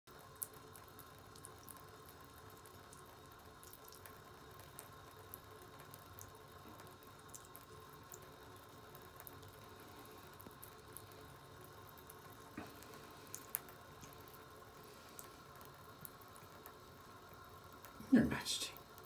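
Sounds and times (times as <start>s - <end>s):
small irregular ticks: 0.1s - 18.0s
faint steady hum: 0.1s - 19.0s
water dripping in a bathtub: 0.1s - 19.0s.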